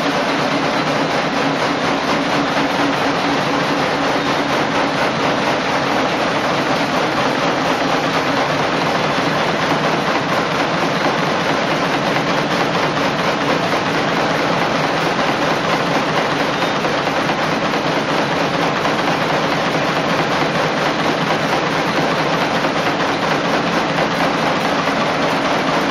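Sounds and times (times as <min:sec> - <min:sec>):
nail making machine clattering: 0:00.0 - 0:25.9.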